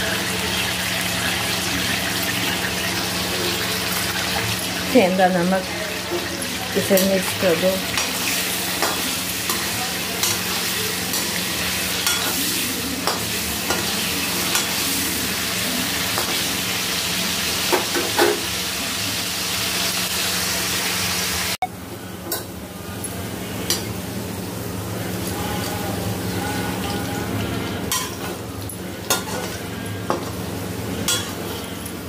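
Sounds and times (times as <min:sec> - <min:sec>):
potatoes sizzling in a pan: 0:00.0 - 0:32.0.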